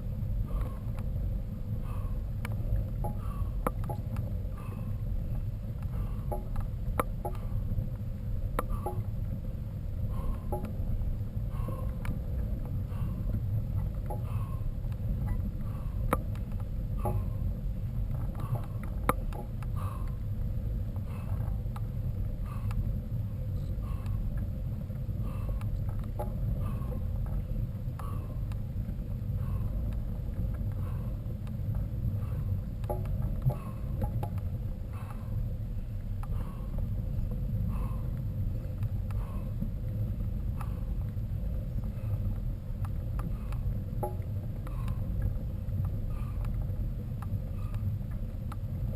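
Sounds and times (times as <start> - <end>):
wind and riding rumble: 0.0 - 48.9.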